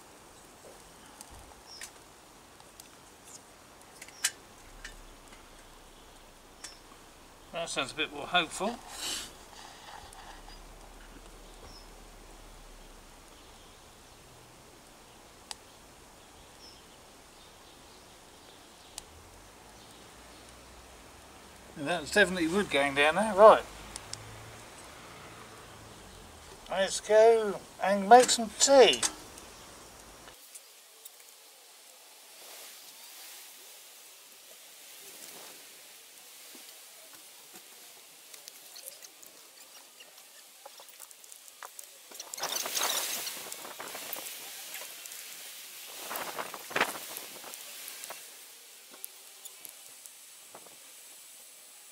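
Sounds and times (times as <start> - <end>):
rustling: 0.0 - 15.7, 21.6 - 51.4
burning twigs popping: 0.0 - 51.5
faint outdoor background: 0.0 - 51.9
fire hissing: 0.0 - 51.9.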